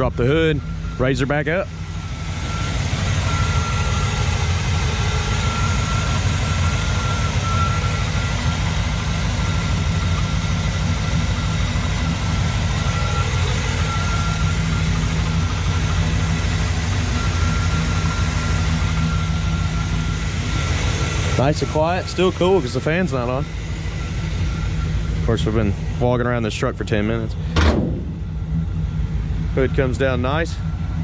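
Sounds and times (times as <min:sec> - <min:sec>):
thin high whine: 0:00.0 - 0:27.5, 0:28.1 - 0:31.0
truck engine idling: 0:00.0 - 0:31.0.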